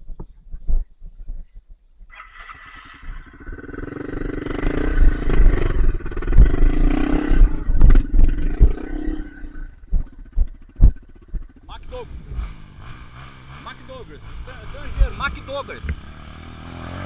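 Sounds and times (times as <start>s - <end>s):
dirt bike engine revving: 2.1s - 17.0s.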